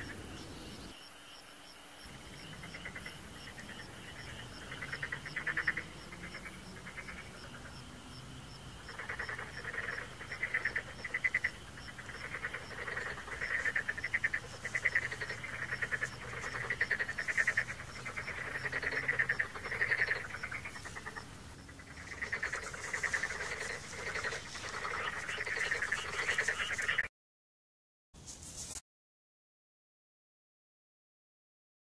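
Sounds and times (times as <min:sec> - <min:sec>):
frogs croaking: 0:00.0 - 0:27.1.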